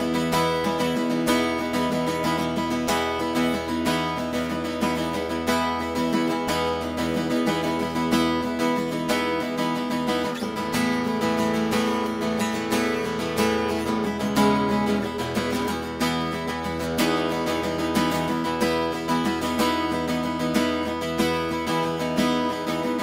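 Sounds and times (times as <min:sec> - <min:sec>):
strummed acoustic guitar music: 0:00.0 - 0:23.0.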